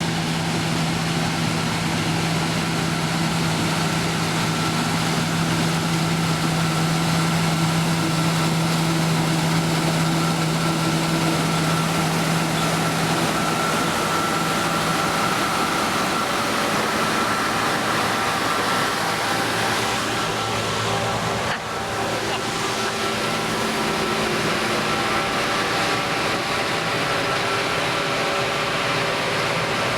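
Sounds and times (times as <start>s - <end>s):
combine harvester drone: 0.0s - 29.9s
high machine whine: 0.0s - 29.9s.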